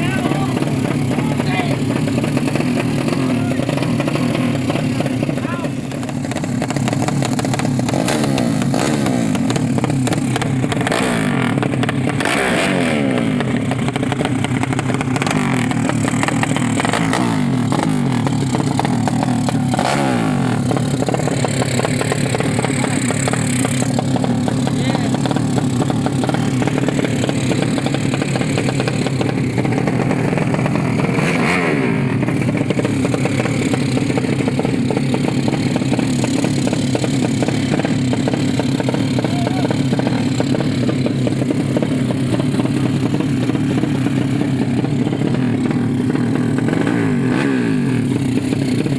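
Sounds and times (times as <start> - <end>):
motorcycle engines revving: 0.0 - 48.9
motorcycles passing by: 0.0 - 48.9.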